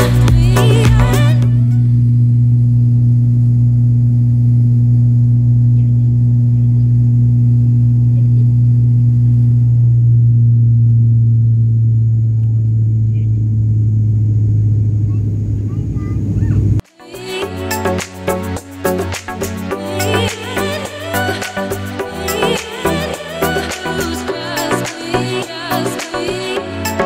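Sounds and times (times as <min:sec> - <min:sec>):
turboprop cabin drone: 0:00.0 - 0:16.8, 0:17.5 - 0:27.0.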